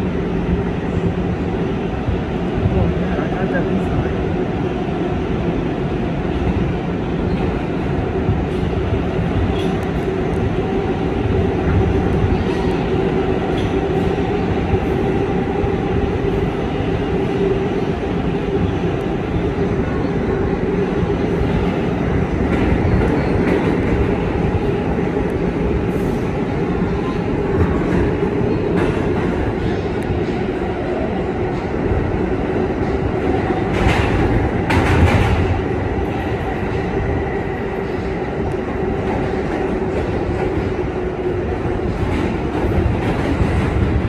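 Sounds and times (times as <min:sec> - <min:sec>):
subway wheels rumbling on rail: 0:00.0 - 0:44.0.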